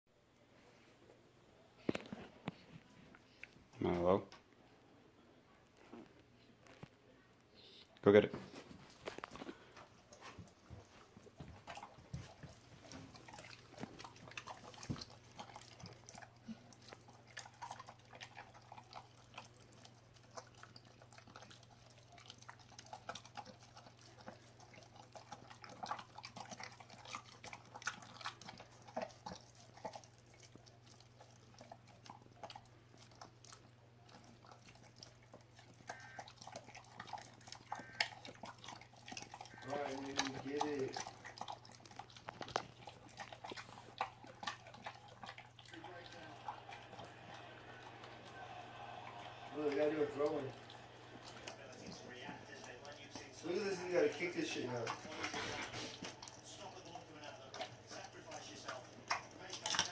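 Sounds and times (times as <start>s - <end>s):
dog chewing raw chicken: 8.4s - 59.9s.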